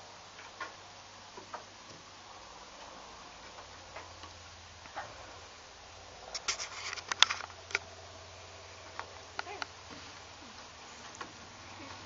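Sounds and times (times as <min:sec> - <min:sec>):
kittens chewing corn kernels: 0:01.4 - 0:12.0.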